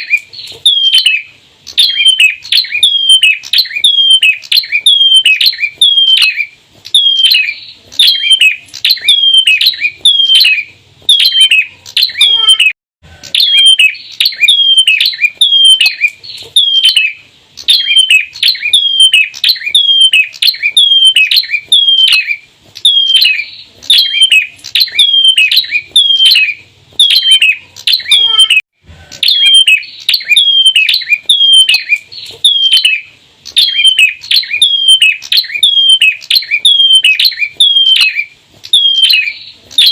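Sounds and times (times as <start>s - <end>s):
bird chirping sharp descending calls: 0.0s - 28.6s, 29.2s - 39.9s.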